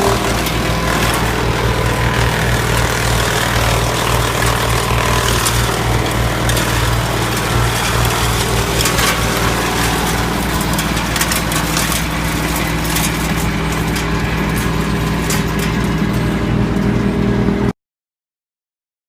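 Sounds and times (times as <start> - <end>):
branches cracking in chipper: 0.0 - 16.4
tractor engine drone: 0.0 - 17.7
woodchipper running: 0.0 - 17.7.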